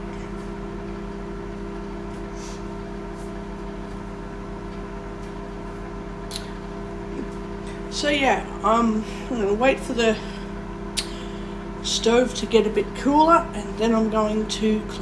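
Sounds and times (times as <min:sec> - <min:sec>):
kitchen appliance electrical hum: 0:00.0 - 0:15.0.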